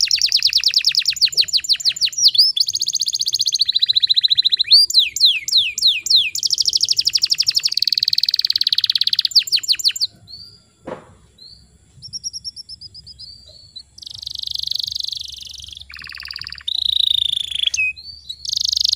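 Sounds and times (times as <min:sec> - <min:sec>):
canary singing: 0:00.0 - 0:18.9.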